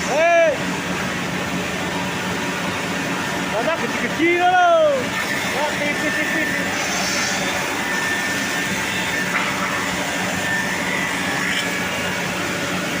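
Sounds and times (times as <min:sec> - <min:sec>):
saw machine whining: 0:02.4 - 0:13.0.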